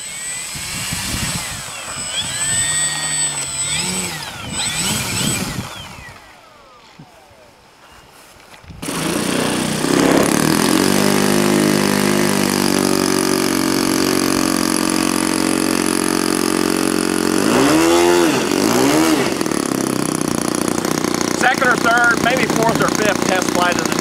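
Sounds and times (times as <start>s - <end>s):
model plane electric motor: 0.0s - 7.4s, 8.8s - 24.0s.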